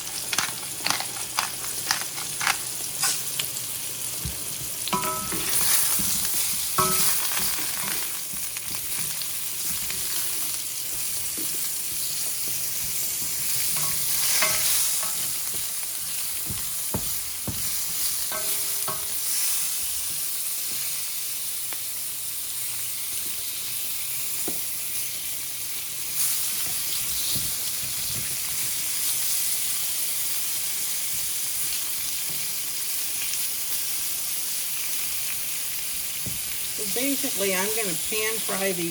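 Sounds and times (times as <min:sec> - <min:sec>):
vegetables sizzling in hot oil: 0:00.0 - 0:38.9.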